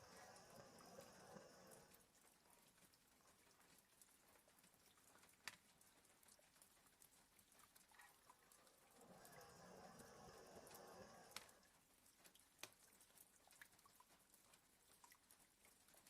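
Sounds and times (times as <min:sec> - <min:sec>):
rain ticking on window glass: 0:00.0 - 0:16.0.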